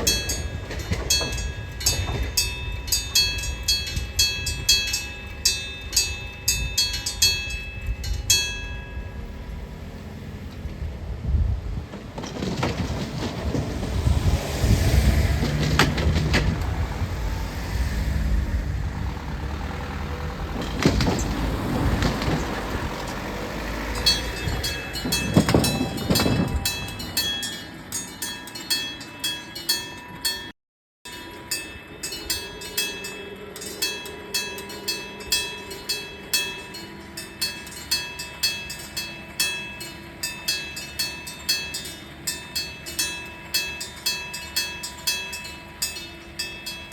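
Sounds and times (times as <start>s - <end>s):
electric crossing bell ringing: 0.0s - 10.7s, 15.4s - 46.9s
train rumbling with wheel clacks: 0.0s - 30.5s, 31.1s - 46.9s.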